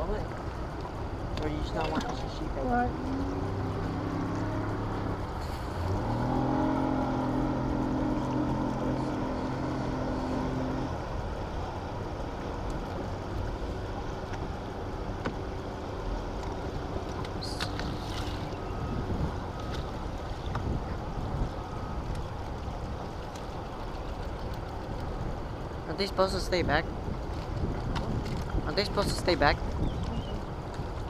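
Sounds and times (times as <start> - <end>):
outboard motor droning: 0.0 - 31.0
rushing water: 0.0 - 31.0
wind: 0.0 - 31.0.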